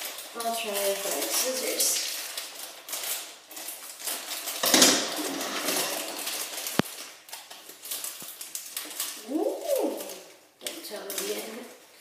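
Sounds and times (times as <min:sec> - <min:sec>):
wrappers crinkling and tearing: 0:00.0 - 0:12.0.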